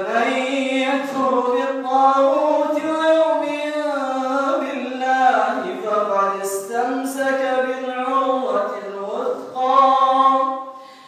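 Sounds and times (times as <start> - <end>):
man chanting melodically: 0.0 - 10.6.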